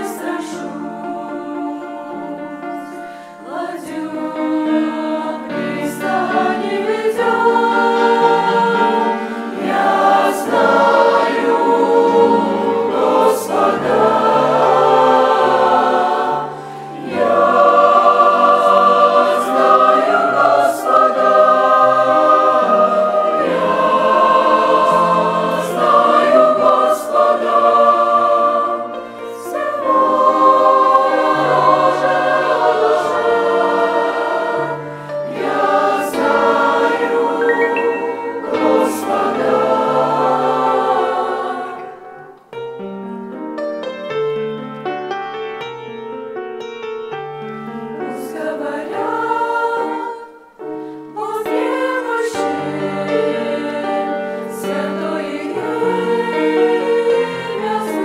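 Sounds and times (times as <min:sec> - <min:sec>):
mixed choir singing a hymn: 0:00.0 - 0:42.4, 0:47.8 - 0:58.0.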